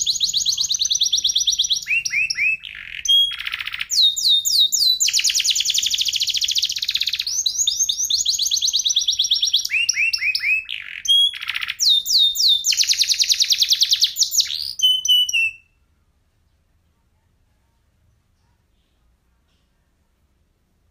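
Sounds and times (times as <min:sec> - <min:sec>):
canary singing trills: 0:00.0 - 0:16.8.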